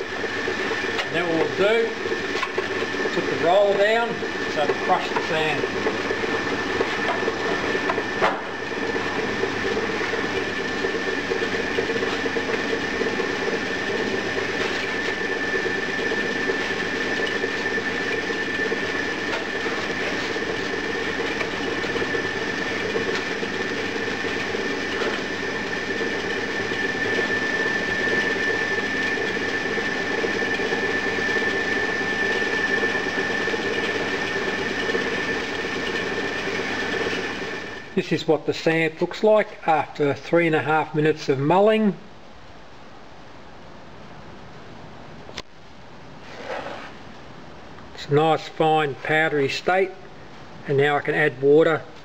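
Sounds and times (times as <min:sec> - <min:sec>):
sand muller grinding with whine: 0:00.0 - 0:41.9, 0:46.2 - 0:47.1, 0:48.0 - 0:52.0.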